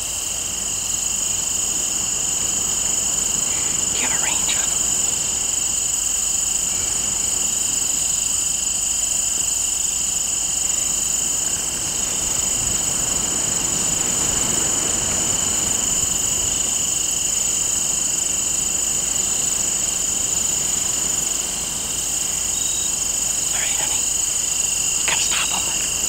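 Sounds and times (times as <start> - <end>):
insects and crickets trilling: 0.0 - 26.0.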